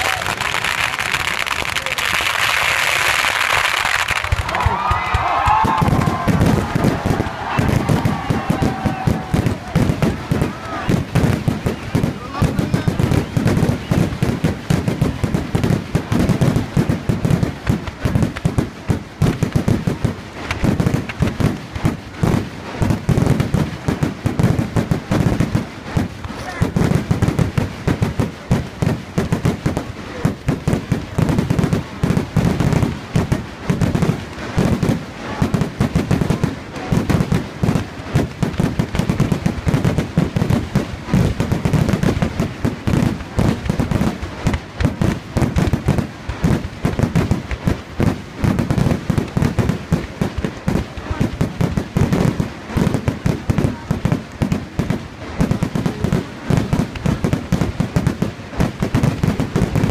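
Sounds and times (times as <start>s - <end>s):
fireworks bangs and crackle: 0.0s - 59.9s.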